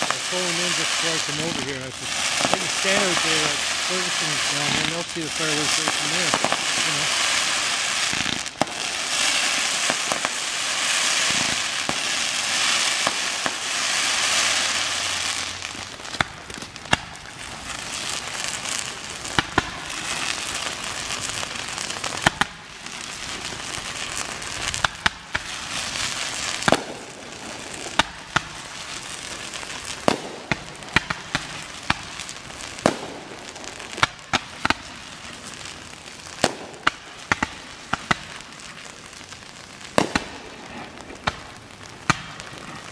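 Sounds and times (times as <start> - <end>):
fireworks bangs and pops: 0.0 - 42.9
fireworks crackling fizz: 0.0 - 42.9.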